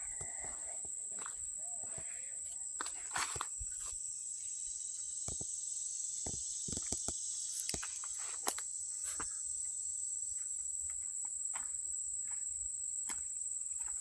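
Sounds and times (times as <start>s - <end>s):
insect chorus buzzing: 0.0s - 14.0s.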